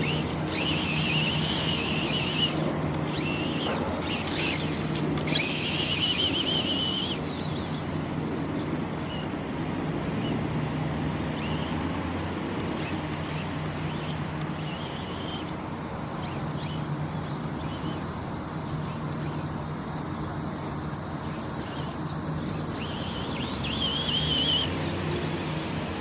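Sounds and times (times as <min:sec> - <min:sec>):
toy car electric motor whining: 0:00.0 - 0:10.5, 0:11.2 - 0:11.8, 0:12.6 - 0:15.6, 0:16.2 - 0:18.1, 0:18.8 - 0:26.0
steady low hum: 0:00.0 - 0:26.0.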